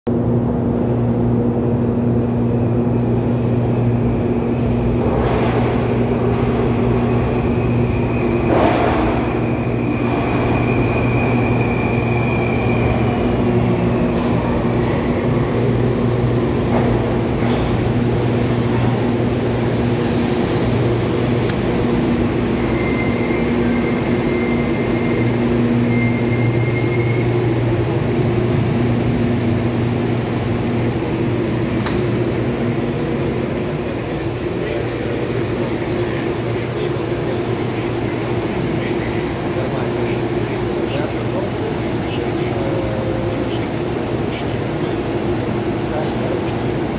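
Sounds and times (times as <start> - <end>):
metro train rumbling: 0.1 - 46.9
thin whine of braking train: 5.4 - 46.9.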